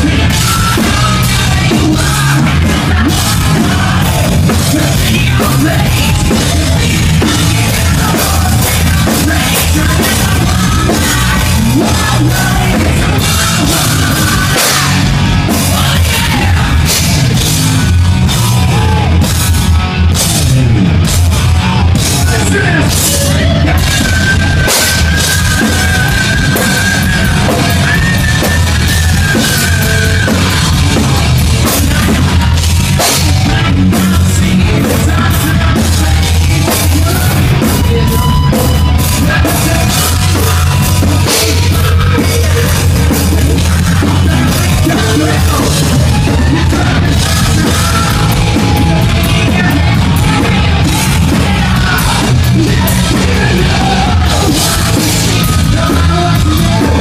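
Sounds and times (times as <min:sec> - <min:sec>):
live hard rock band: 0:00.0 - 0:57.0.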